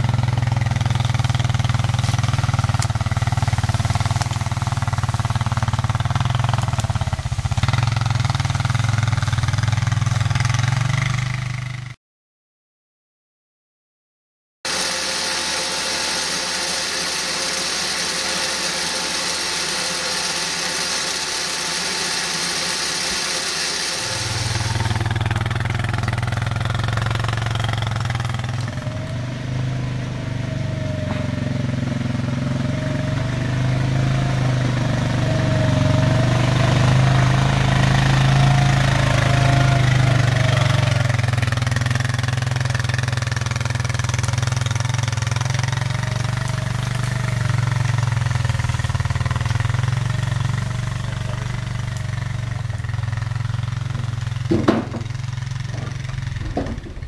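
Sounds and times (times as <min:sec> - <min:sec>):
quad bike engine running: 0:00.0 - 0:12.0, 0:14.7 - 0:57.0.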